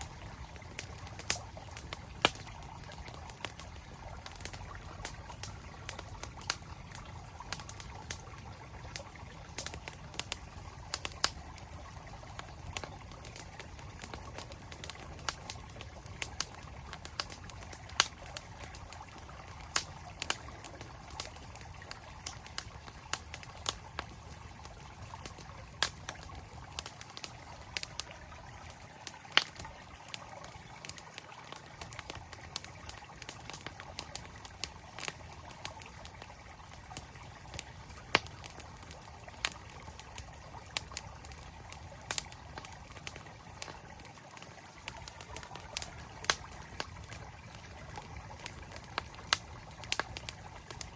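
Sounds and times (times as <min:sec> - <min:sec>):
campfire crackling and popping: 0:00.0 - 0:50.9
flowing mountain stream: 0:00.0 - 0:50.9.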